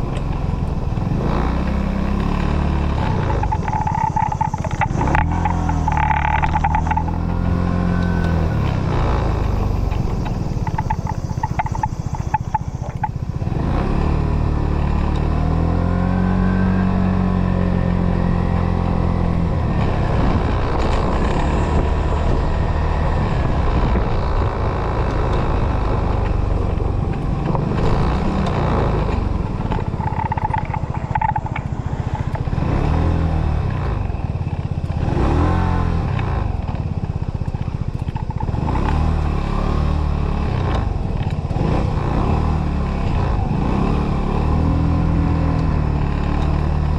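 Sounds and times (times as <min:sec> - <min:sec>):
motorcycle engine revving: 0:00.0 - 0:46.9
road and wind noise: 0:00.0 - 0:46.9.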